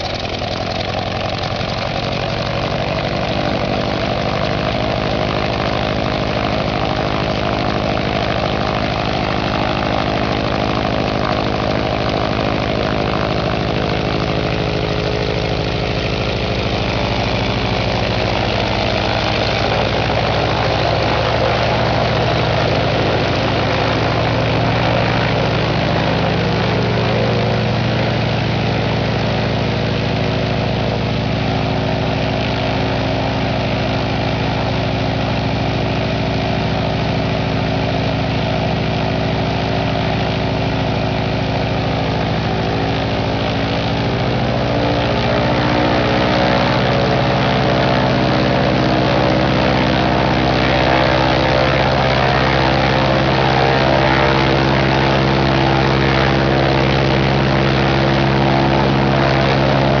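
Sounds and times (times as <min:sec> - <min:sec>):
radial aircraft engine running: 0:00.0 - 1:00.0.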